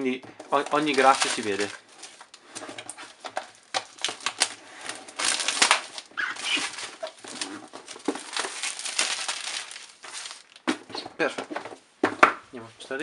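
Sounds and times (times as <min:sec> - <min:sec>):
cardboard scraping and rustling: 0:00.5 - 0:11.7.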